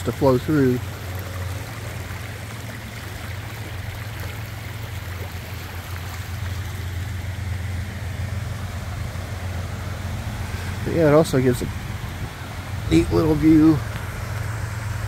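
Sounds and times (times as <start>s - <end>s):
water rushing over stones: 0.0s - 15.0s.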